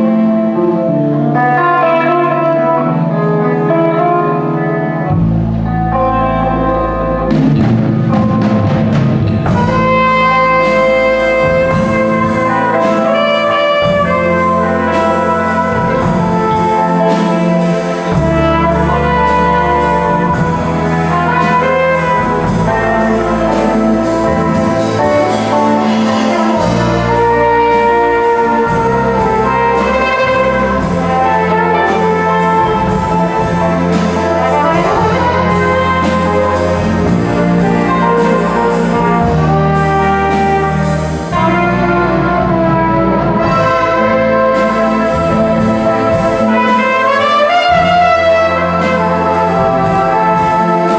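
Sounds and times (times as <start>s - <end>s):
bass and drums: 0.0s - 50.9s
horns holding chords: 0.0s - 50.9s.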